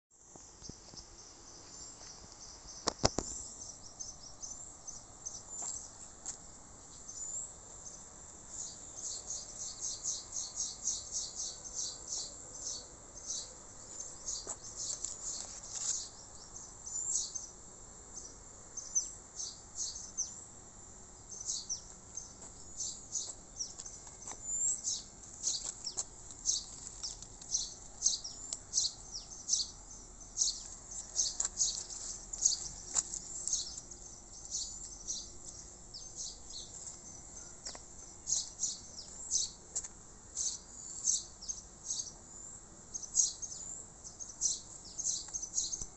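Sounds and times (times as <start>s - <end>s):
small birds chirping: 0.4s - 45.9s.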